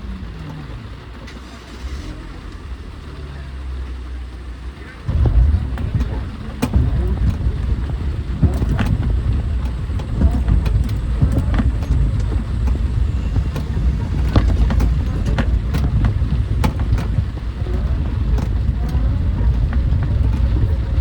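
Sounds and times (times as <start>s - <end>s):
low rumble of road vehicle: 0.0s - 21.0s.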